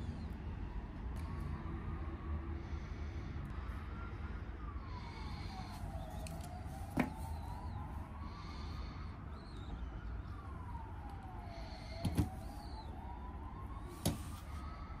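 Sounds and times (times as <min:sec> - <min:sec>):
low street rumble: 0:00.0 - 0:15.0
siren wailing: 0:00.1 - 0:15.0.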